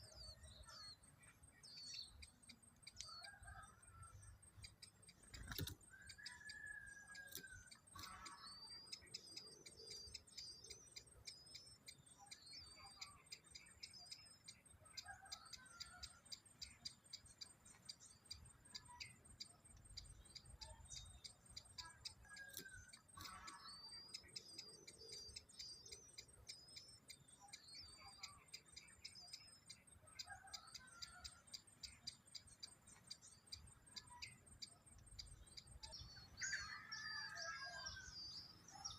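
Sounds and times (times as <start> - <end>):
faint birdsong: 0.0 - 38.9
soft ticks: 0.1 - 36.2.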